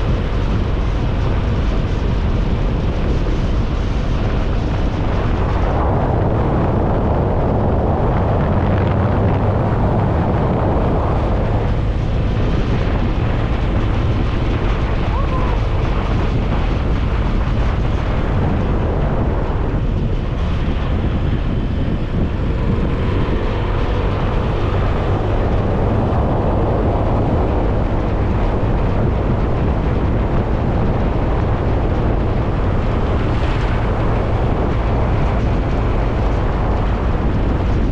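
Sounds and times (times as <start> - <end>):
motorcycle engine drone: 0.0 - 37.9
wind rushing on microphone: 0.0 - 37.9.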